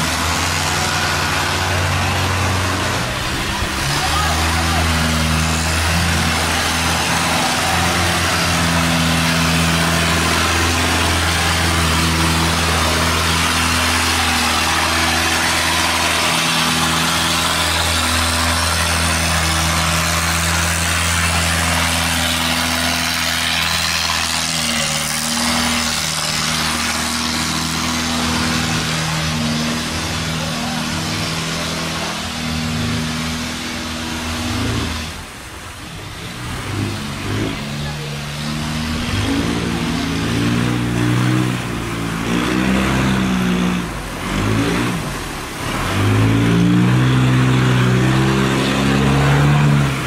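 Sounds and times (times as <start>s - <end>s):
boat engines running hard: 0.0s - 50.0s
rushing churning water: 0.0s - 50.0s.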